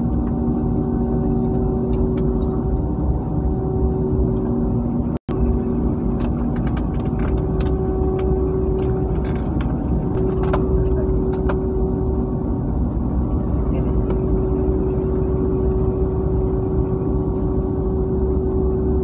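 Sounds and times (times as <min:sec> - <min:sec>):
jet engines droning in cabin: 0:00.0 - 0:19.0.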